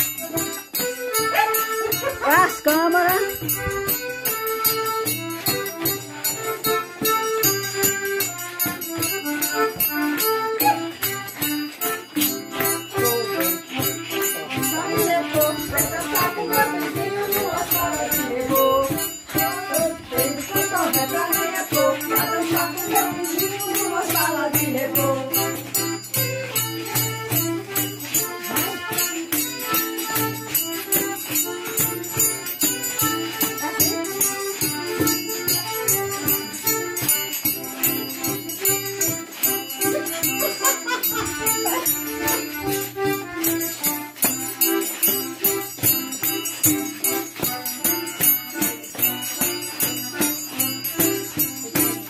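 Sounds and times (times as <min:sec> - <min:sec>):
held instrument notes: 0:00.0 - 0:52.0
rattling jingling percussion: 0:00.0 - 0:52.0.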